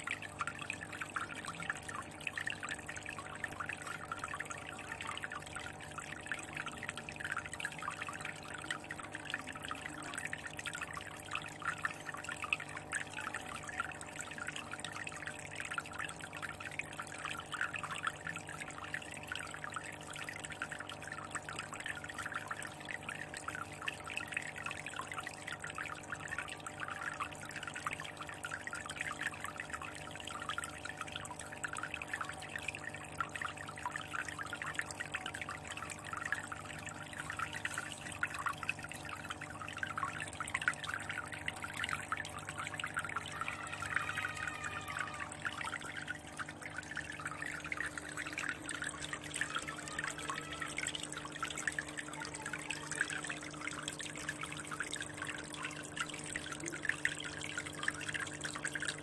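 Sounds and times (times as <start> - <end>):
faint steady hum: 0.0 - 59.0
water trickling into aquarium: 0.0 - 59.0.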